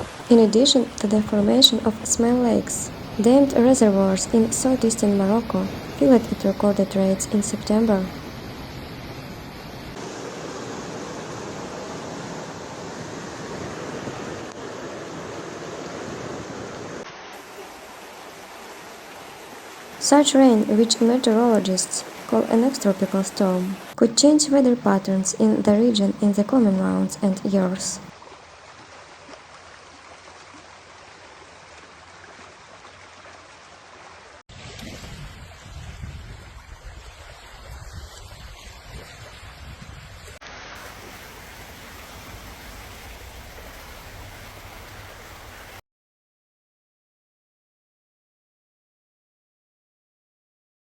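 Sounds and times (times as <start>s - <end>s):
floodwater rushing: 0.0s - 8.7s, 9.3s - 39.5s, 40.5s - 45.8s.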